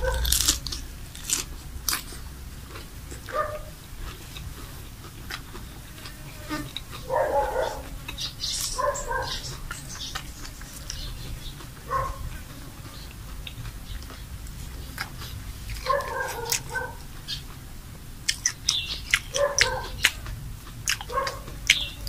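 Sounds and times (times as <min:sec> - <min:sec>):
person chewing crunchy food: 0:00.0 - 0:17.6, 0:18.2 - 0:22.0.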